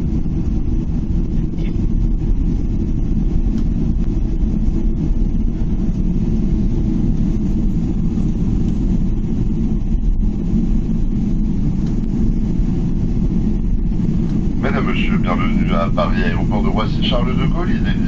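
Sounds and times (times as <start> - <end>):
aircraft cabin engine and rolling rumble: 0.0 - 18.0.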